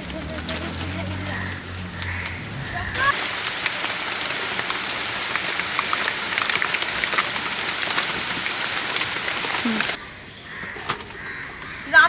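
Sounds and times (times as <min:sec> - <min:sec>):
raindrops ticking on a surface: 0:00.0 - 0:12.0
steady rain falling: 0:00.0 - 0:12.0.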